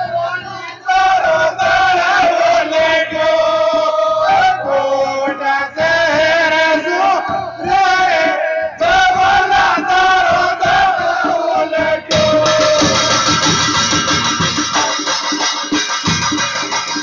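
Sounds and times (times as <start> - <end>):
voices singing devotional song: 0.0 - 16.0
musical accompaniment: 0.0 - 17.0.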